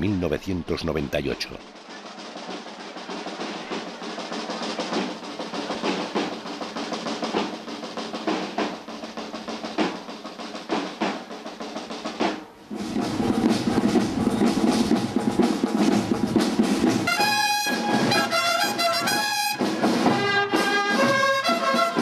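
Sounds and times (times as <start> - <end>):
snare drum rolls: 0.8 - 22.0
band playing a march: 1.6 - 22.0.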